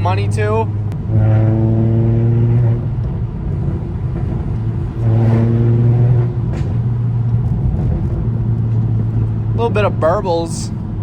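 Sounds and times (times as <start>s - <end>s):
car exhaust droning: 0.0s - 11.0s.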